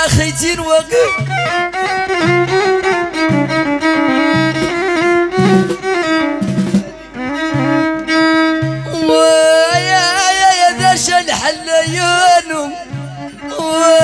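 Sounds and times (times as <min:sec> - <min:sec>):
violin sliding melody: 0:00.0 - 0:14.0.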